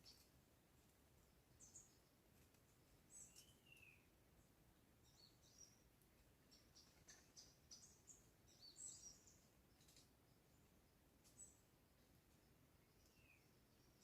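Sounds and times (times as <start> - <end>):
faint background hiss: 0.0 - 14.0
songbird chirps: 0.0 - 14.0.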